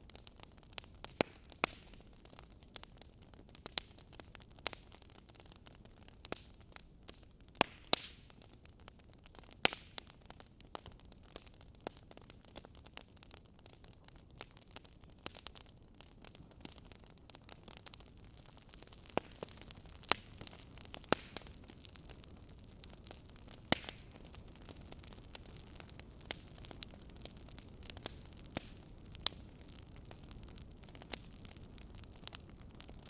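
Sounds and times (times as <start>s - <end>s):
faint steady hiss: 0.0s - 33.0s
wood fire crackling: 0.0s - 33.0s.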